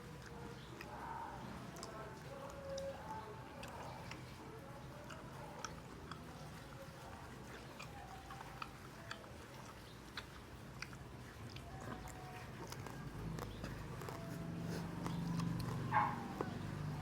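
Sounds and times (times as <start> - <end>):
person chewing crispy food: 0.0 - 17.0.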